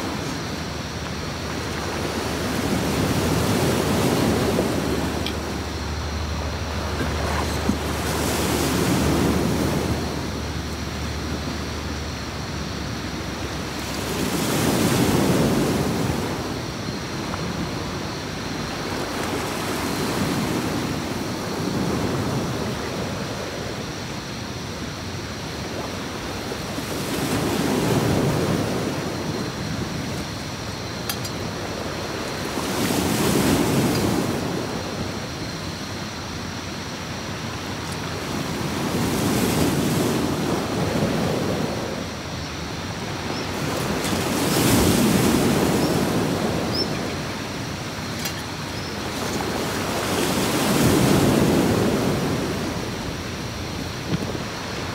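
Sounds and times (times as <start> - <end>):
sea waves breaking on beach: 0.0 - 54.9.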